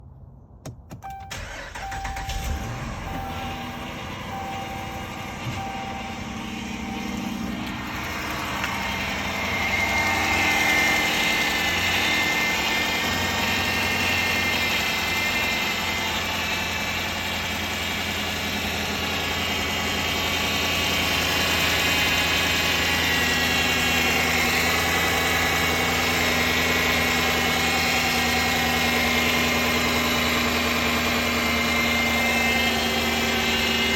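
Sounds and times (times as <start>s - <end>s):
car engine starting and running: 0.5s - 33.9s
engine whine: 0.7s - 33.9s.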